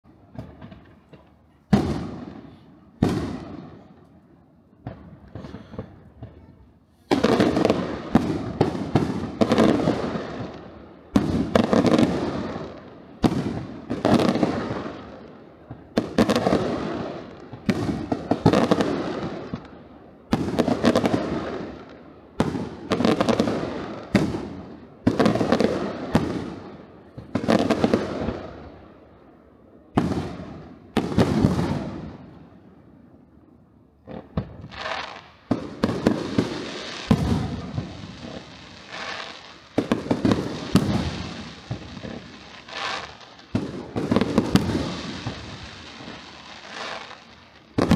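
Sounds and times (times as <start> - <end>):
fireworks crackling: 0.1 - 28.8, 30.0 - 32.4, 34.0 - 47.9
fireworks bursting: 0.1 - 28.9, 29.9 - 32.6, 34.0 - 47.9.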